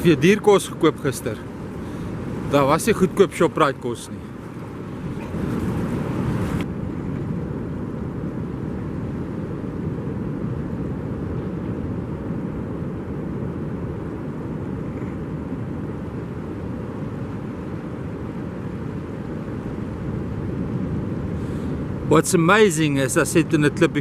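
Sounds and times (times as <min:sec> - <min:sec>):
surf rushing: 0:00.0 - 0:14.7, 0:15.5 - 0:24.0
beach wind: 0:00.0 - 0:24.0.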